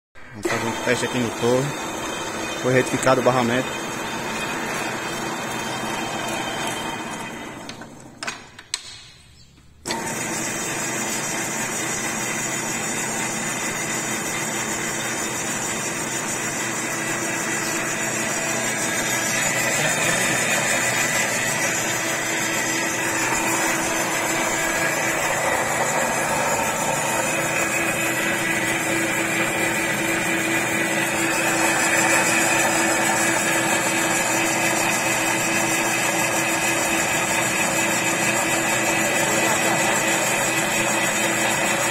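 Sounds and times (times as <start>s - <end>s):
metal lathe running: 0.4s - 7.9s, 9.9s - 41.9s.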